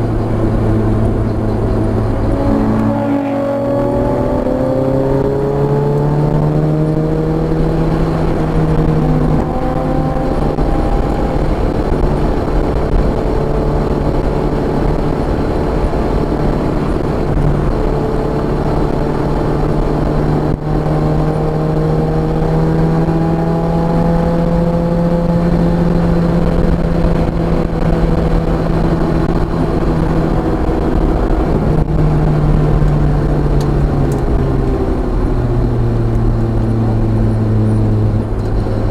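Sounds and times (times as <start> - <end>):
car engine revving: 0.0 - 38.9
road and wind noise: 0.0 - 38.9.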